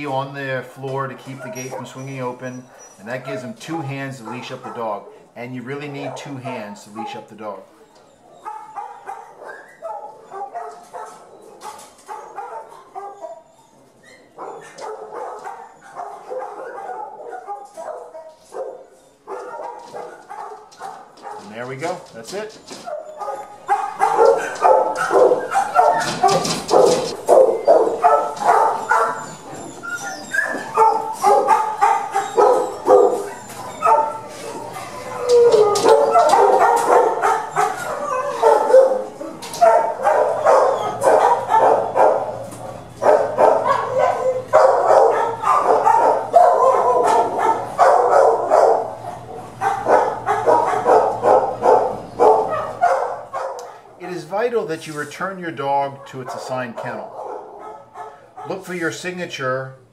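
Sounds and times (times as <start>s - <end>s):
dogs barking: 1.2s - 54.0s, 55.6s - 58.8s.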